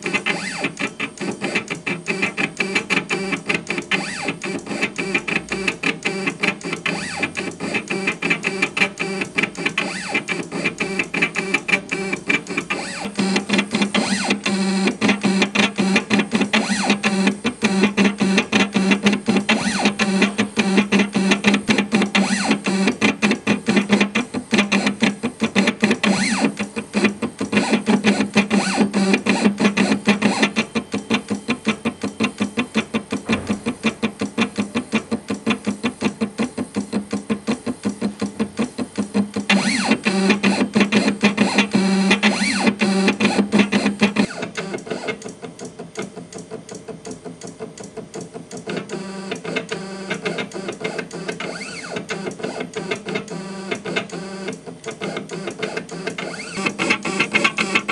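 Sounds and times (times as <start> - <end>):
stepper motors buzzing: 0.0 - 31.8, 39.1 - 45.2, 48.9 - 57.9.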